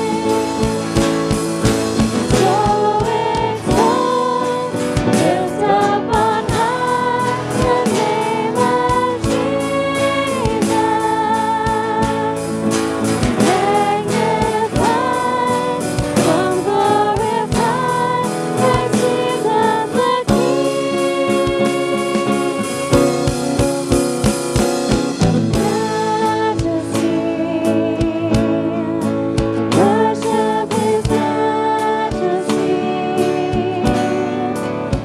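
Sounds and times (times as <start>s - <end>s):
instrumental accompaniment with beat: 0.0s - 35.0s
voices singing praise song: 0.0s - 35.0s.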